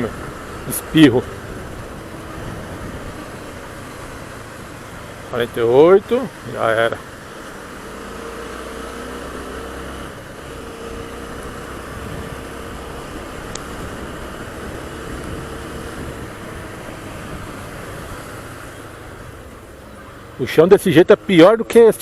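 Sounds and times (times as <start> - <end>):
motorcycle engine running: 0.0 - 20.4
wind and road noise: 0.0 - 22.0.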